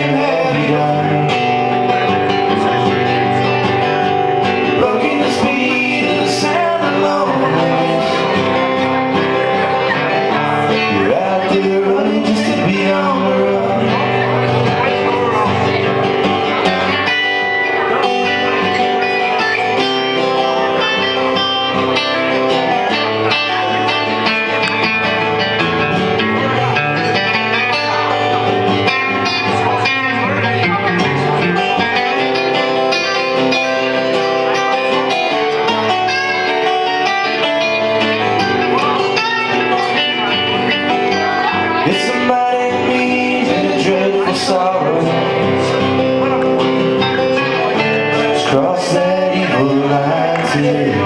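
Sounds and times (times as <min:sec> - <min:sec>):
bass guitar: 0:00.0 - 0:51.0
strummed and picked guitars: 0:00.0 - 0:51.0.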